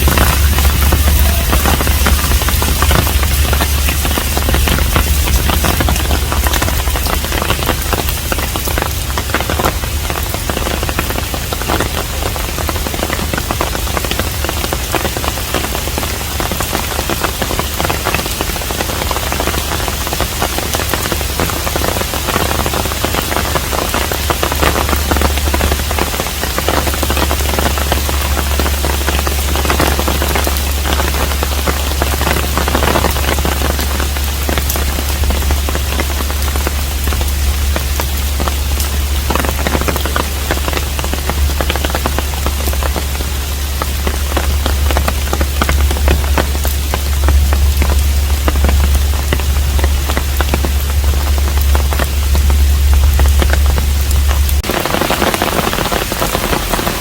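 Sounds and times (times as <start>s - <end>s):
rain pattering: 0.0s - 57.0s
steady low rumble: 0.0s - 57.0s.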